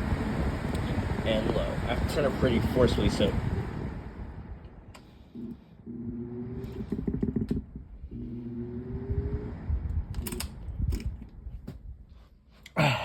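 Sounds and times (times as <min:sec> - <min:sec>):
box fan motor humming: 0:00.0 - 0:11.7.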